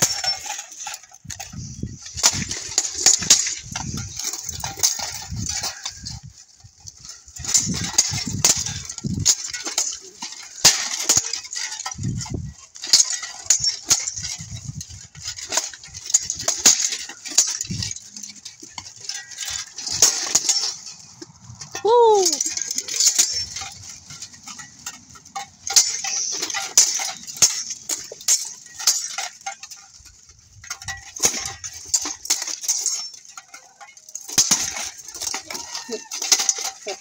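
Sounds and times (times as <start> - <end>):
swords clashing: 0.0 - 1.5, 2.2 - 6.2, 7.1 - 37.0
plate armour clanking: 0.0 - 37.0.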